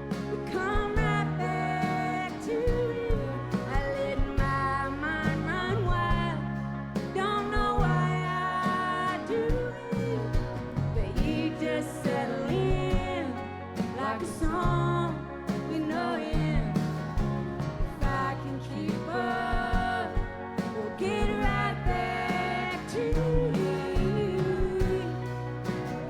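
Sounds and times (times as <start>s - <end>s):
bass notes: 0.0s - 26.0s
live country-rock band: 0.0s - 26.0s
person singing: 0.0s - 26.0s.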